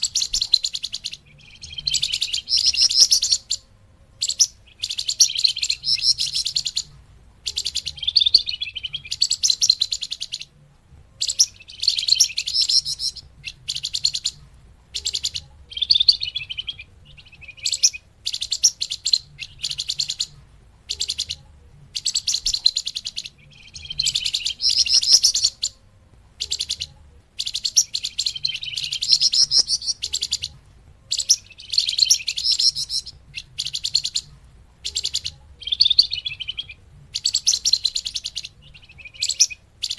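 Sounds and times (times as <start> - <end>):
songbird chattering trills: 0.0 - 39.9.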